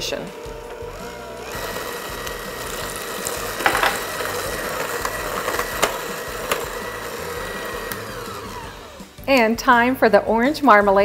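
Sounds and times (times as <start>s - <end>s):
electric hand mixer whirring: 0.0s - 9.3s.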